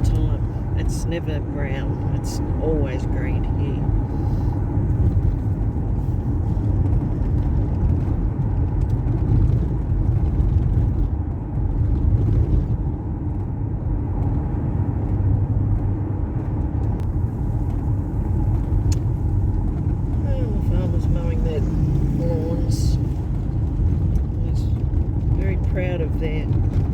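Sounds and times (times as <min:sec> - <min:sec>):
car engine and tyre rumble: 0:00.0 - 0:26.9.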